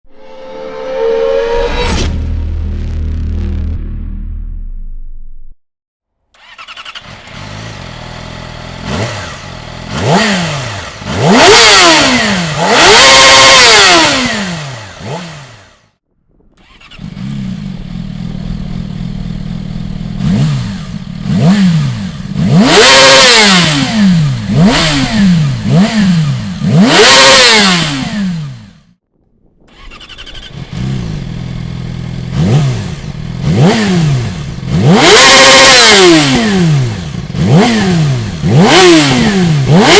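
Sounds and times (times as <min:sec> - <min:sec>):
motorcycle engine revving: 0:06.4 - 0:16.0, 0:16.6 - 0:29.0, 0:29.7 - 0:39.9.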